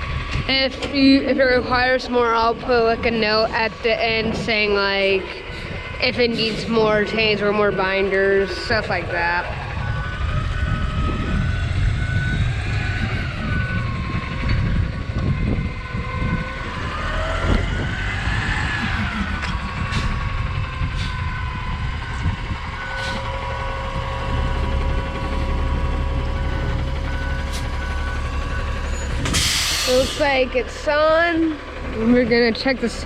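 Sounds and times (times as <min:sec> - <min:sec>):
diesel truck engine revving: 0:00.0 - 0:33.0
backup alarm beeping: 0:00.5 - 0:15.6, 0:19.3 - 0:33.0.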